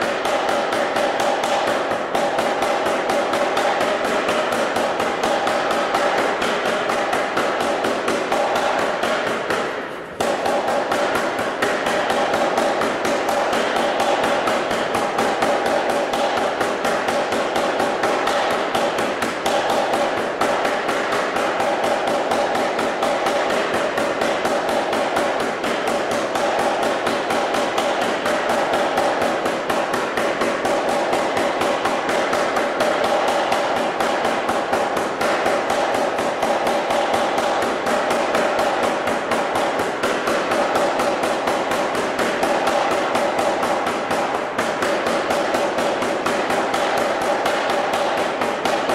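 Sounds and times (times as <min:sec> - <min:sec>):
power hammer striking hot steel: 0:00.0 - 0:48.9.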